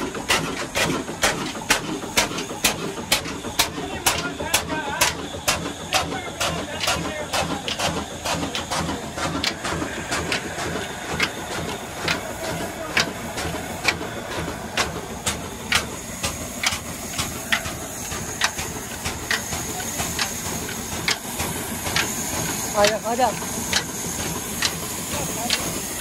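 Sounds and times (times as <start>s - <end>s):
slow-running diesel engine: 0.0s - 26.0s.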